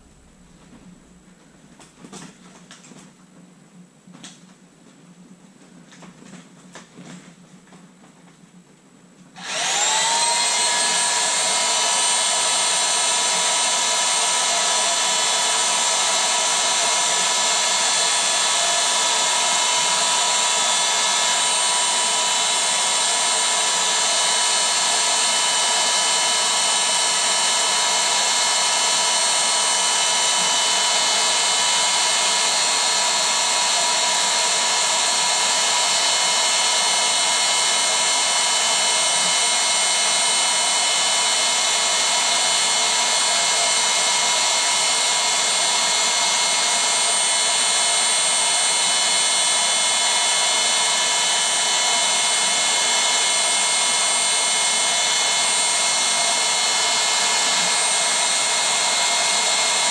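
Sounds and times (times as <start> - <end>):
electric air pump whining: 9.4 - 59.9.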